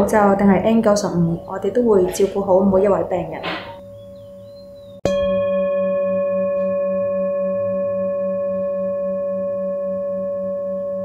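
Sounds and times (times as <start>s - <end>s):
bell-like metal tone ringing: 1.0s - 11.0s.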